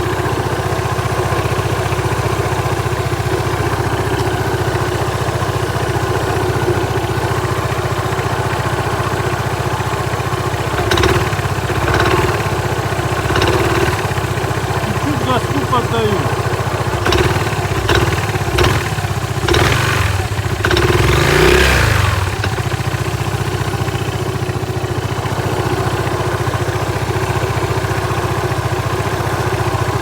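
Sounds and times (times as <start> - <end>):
scooter engine idling: 0.0 - 30.0.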